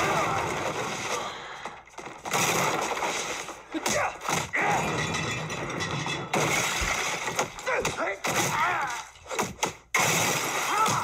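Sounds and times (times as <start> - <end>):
dense fight noise: 0.0 - 1.4, 2.0 - 5.5, 6.3 - 11.0.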